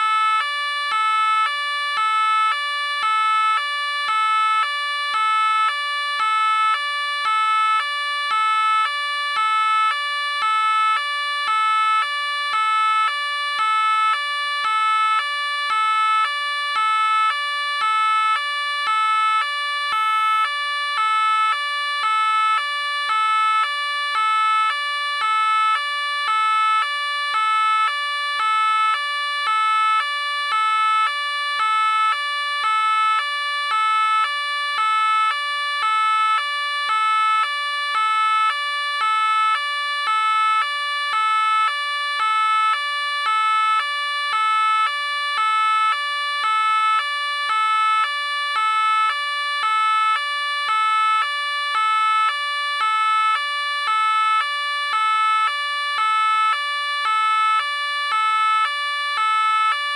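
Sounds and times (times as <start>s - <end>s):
two-tone police siren: 0.0s - 59.9s.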